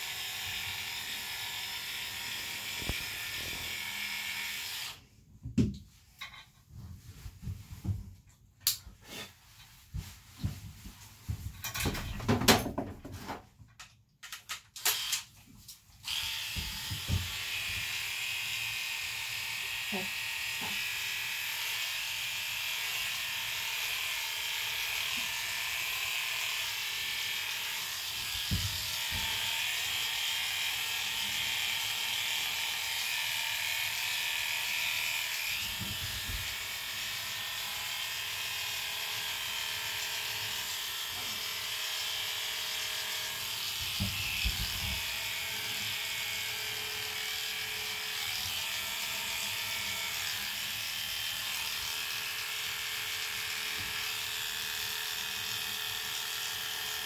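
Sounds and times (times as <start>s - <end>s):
electric clippers buzzing: 0.0s - 5.0s, 14.8s - 15.3s, 16.0s - 57.0s.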